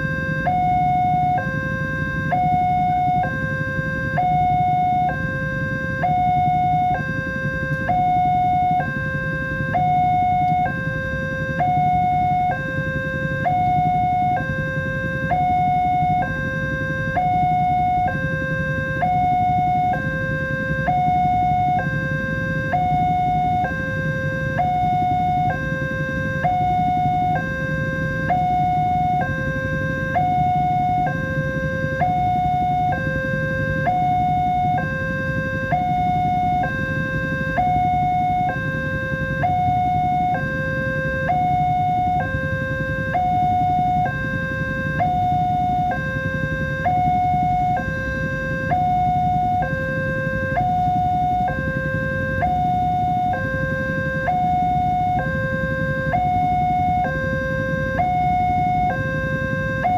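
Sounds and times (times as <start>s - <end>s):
low steady rumble: 0.0s - 59.9s
two-tone crossing alarm: 0.0s - 59.9s.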